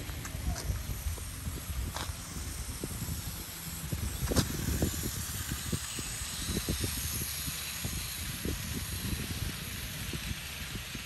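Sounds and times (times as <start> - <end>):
model train rumbling: 0.0 - 11.0.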